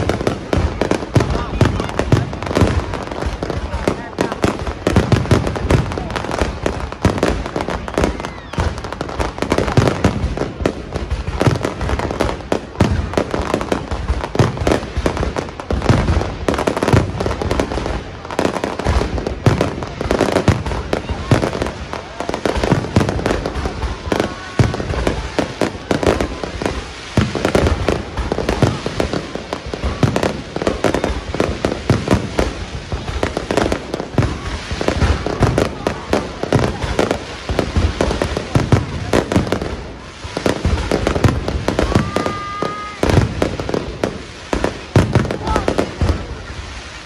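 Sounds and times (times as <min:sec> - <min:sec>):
fireworks bursts and crackles: 0:00.0 - 0:47.0.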